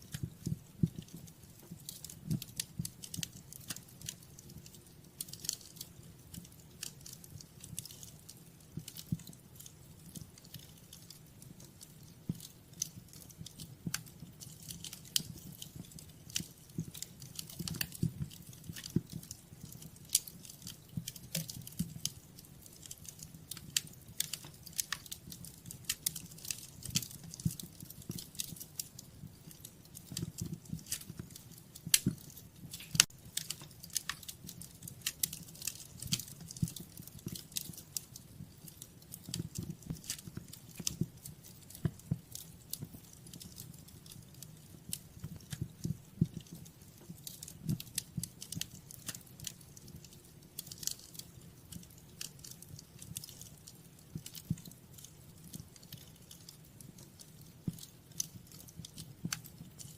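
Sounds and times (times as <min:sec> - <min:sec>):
low rumble of flame: 0:00.0 - 0:59.9
sharp pops and snaps: 0:00.0 - 0:59.9
wood fire crackling: 0:00.0 - 0:59.9.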